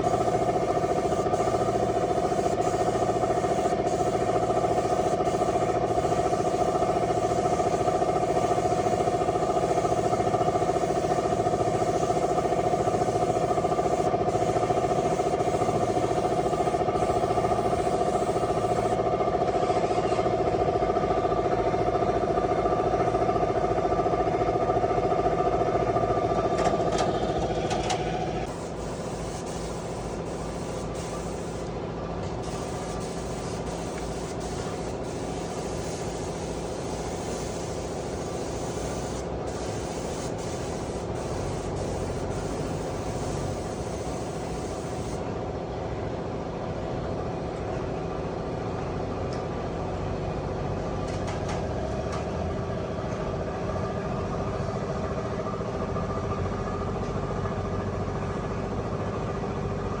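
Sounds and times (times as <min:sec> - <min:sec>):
engine running: 0:00.0 - 1:00.0.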